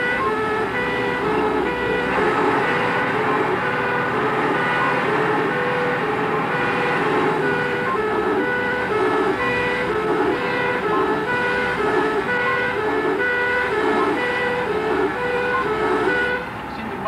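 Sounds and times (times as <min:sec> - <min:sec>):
two-tone fire engine horns: 0:00.0 - 0:16.7
engine and road noise: 0:00.0 - 0:17.0.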